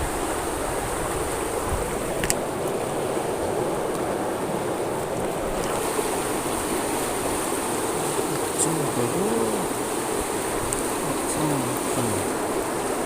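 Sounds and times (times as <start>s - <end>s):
river current rushing: 0.0s - 13.0s.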